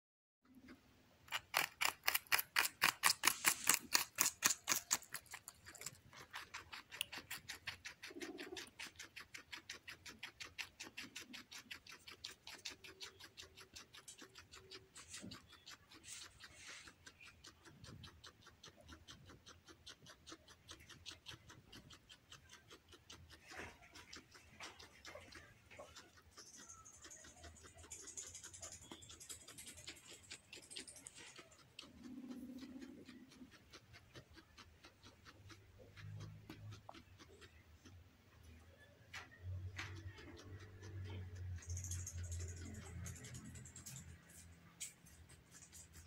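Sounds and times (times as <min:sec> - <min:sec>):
guinea pig chewing: 0:00.4 - 0:46.0.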